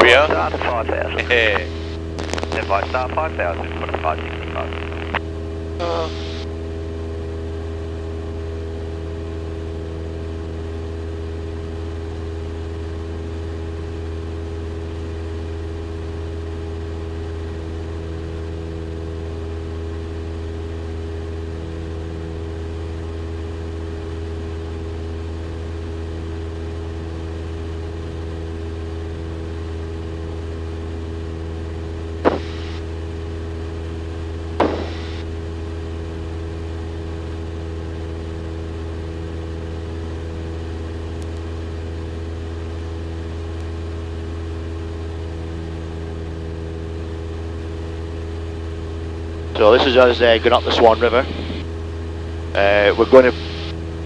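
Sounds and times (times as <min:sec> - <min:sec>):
airplane engine and propeller drone: 0:00.0 - 0:54.0.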